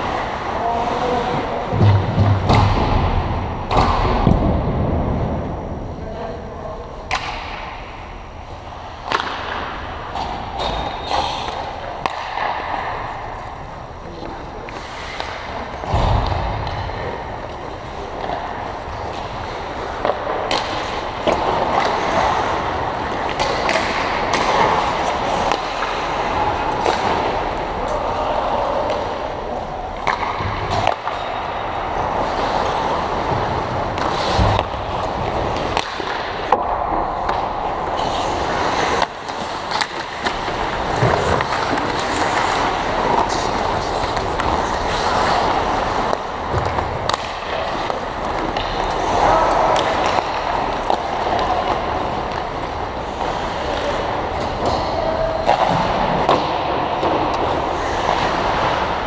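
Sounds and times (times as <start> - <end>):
hockey sticks and puck clacking: 0.0 - 5.4, 7.0 - 59.0
skates scraping on ice: 8.7 - 59.0.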